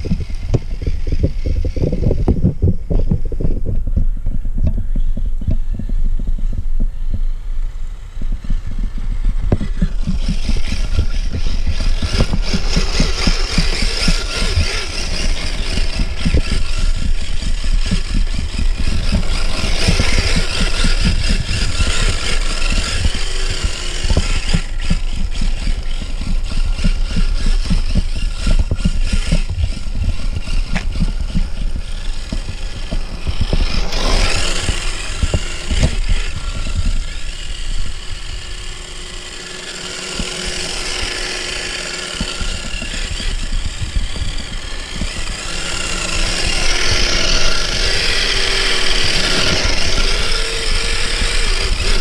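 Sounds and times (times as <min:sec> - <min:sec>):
small motors whirring: 0:00.0 - 0:52.0
wind buffeting microphone: 0:00.0 - 0:52.0.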